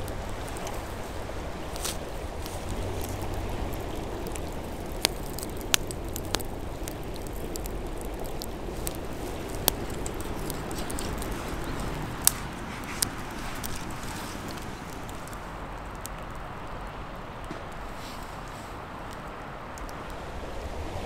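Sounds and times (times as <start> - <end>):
burning wood popping: 0.0 - 21.0
wood fire crackling: 0.0 - 21.0.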